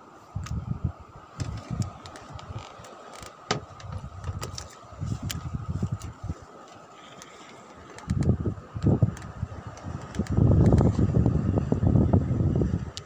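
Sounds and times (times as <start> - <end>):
wind buffeting microphone: 0.3 - 6.6, 7.8 - 13.0.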